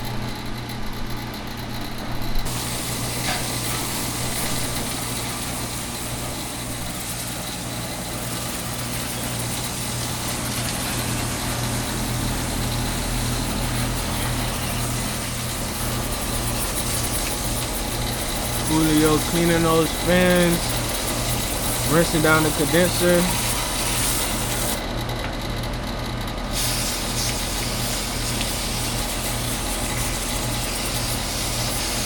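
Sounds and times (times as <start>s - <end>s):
low machine hum: 0.0s - 32.0s
hose water spraying: 2.5s - 24.8s, 26.5s - 32.0s.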